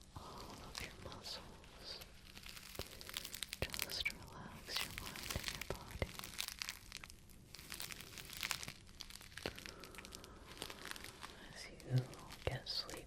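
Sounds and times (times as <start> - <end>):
material crinkling and crackling: 0.0 - 13.0.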